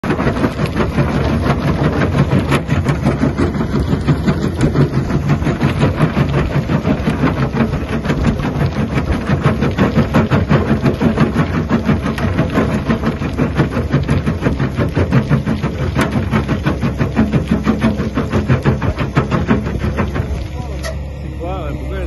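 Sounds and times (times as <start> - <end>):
concrete crunching in crusher: 0.0 - 22.0
excavator engine hum: 0.0 - 22.0.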